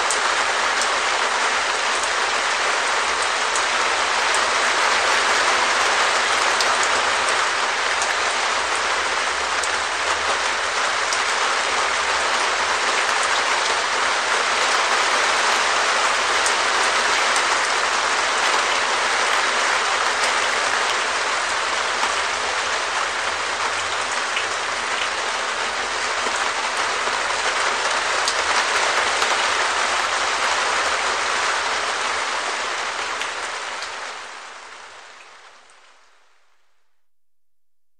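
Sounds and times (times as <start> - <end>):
rain on a plastic roof: 0.0 - 37.0.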